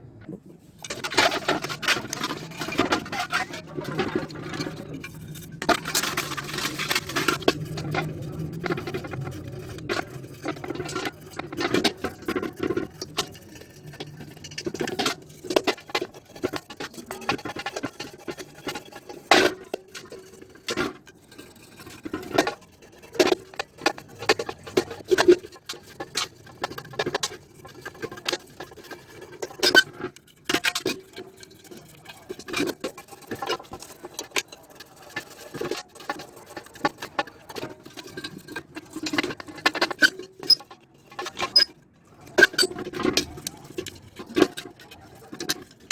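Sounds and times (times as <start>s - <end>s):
tools clicking and scraping on metal: 0.6s - 45.9s.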